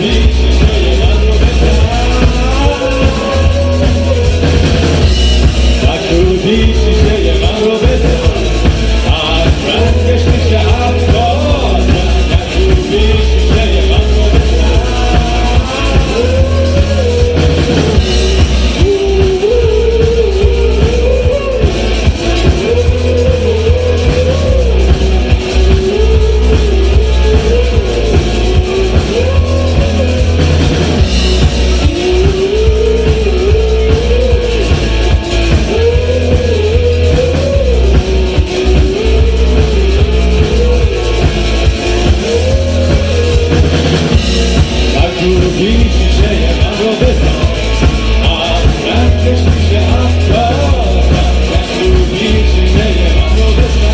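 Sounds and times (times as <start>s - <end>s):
bass: 0.0s - 53.9s
drum kit: 0.0s - 53.9s
guitar: 0.0s - 53.9s
lead melody line: 0.0s - 53.9s.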